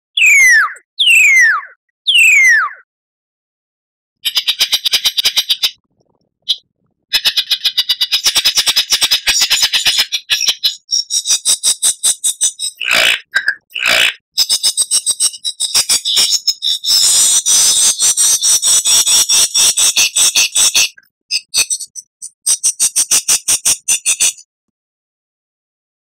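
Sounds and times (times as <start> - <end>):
lyrebird singing: 0.2 - 2.8, 4.2 - 5.8, 6.5 - 24.4.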